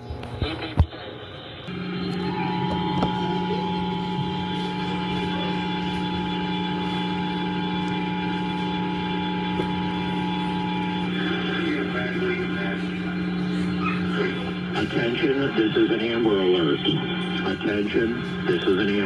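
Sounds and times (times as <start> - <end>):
low steady hum: 1.6 - 19.0
two-tone attention signal: 1.7 - 19.0.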